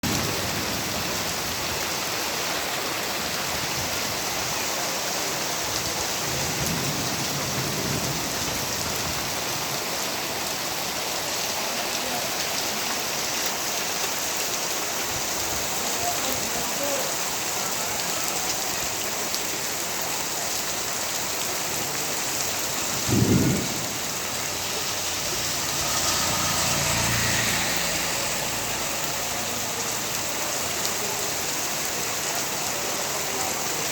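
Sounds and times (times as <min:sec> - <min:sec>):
torrential rain pouring: 0:00.0 - 0:33.9.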